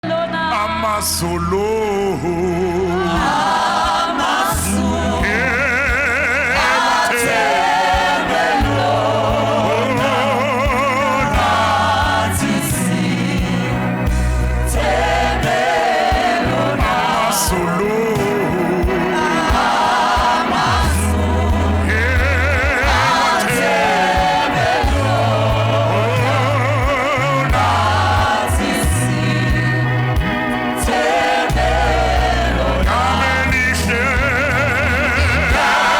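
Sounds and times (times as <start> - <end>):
choir singing gospel: 0.0 - 35.9
stepping bass line: 0.7 - 35.9.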